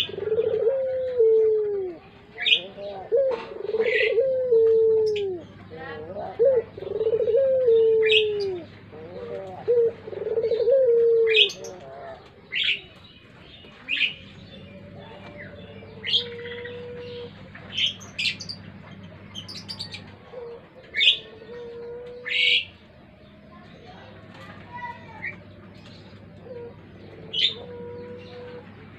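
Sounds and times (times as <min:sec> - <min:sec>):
dove cooing: 0:00.0 - 0:13.0, 0:13.8 - 0:28.9
small birds chirping: 0:00.0 - 0:28.9.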